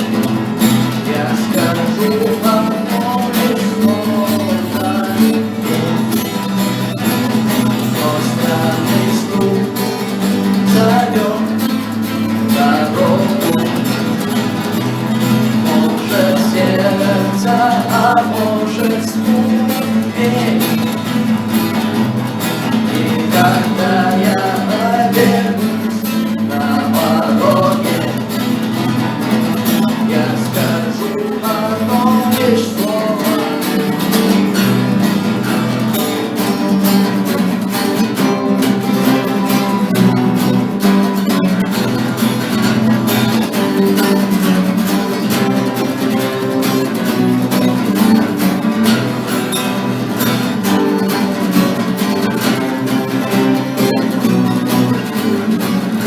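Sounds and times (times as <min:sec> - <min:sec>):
guitar melody line: 0:00.0 - 0:56.0
strummed acoustic guitar: 0:00.0 - 0:56.0.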